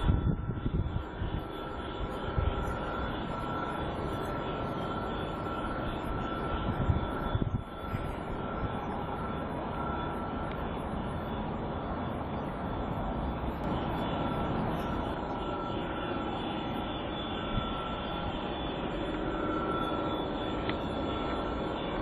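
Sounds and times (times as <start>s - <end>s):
thin whine: 0.0s - 22.0s.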